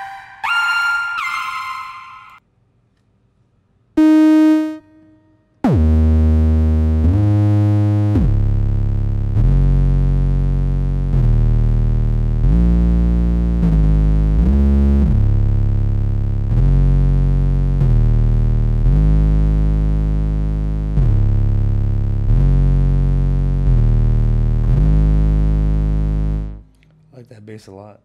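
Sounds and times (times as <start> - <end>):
gliding synth bass notes: 4.0 - 26.6.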